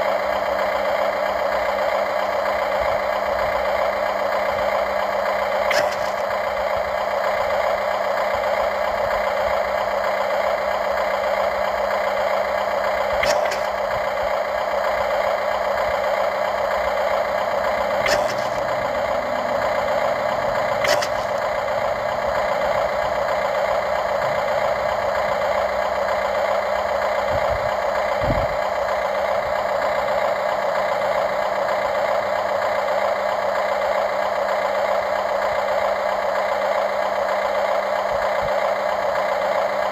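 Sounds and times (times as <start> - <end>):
model excavator mechanical hum: 0.0 - 39.9.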